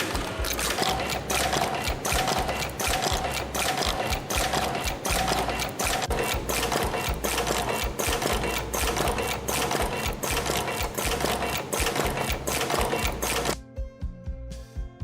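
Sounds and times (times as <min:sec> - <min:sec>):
machine clattering clicks: 0:00.0 - 0:13.6.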